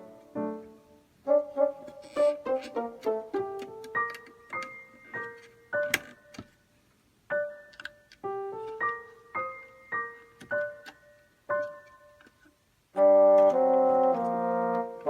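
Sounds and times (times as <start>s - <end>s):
piano melody: 0.0s - 6.4s, 7.2s - 15.0s.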